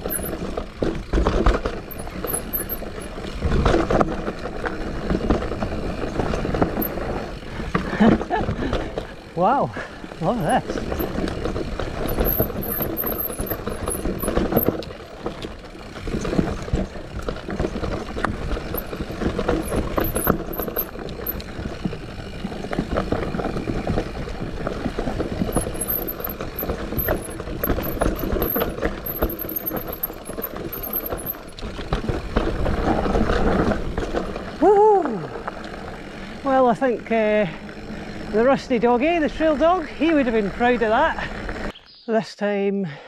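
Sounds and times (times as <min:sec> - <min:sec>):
bike tyres rumbling over dirt: 0:00.0 - 0:41.7
bike rattling over bumps: 0:00.0 - 0:41.8.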